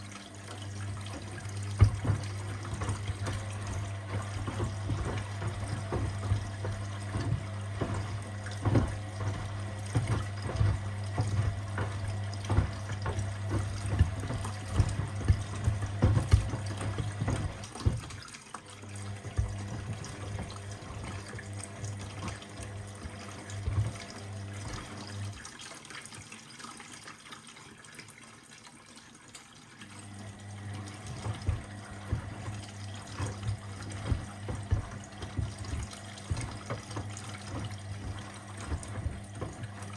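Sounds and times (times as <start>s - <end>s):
water sloshing in washing machine: 0.0s - 39.9s
sneakers knocking in drum: 1.0s - 18.2s, 19.2s - 25.1s, 30.7s - 39.9s.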